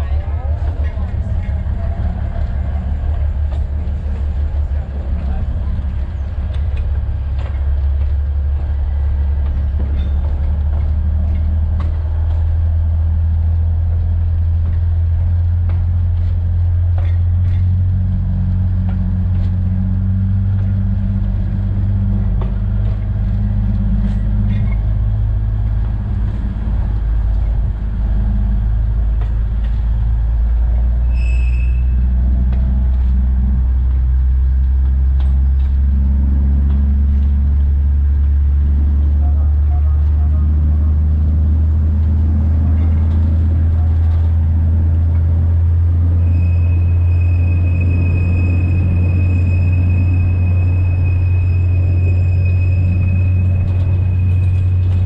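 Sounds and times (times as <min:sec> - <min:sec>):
train diesel engine running: 0:00.0 - 0:55.0.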